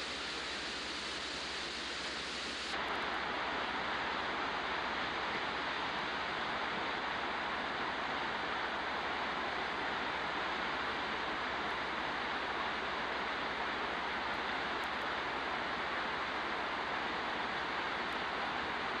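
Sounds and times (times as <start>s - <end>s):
whitewater rushing over rapids: 0.0s - 19.0s.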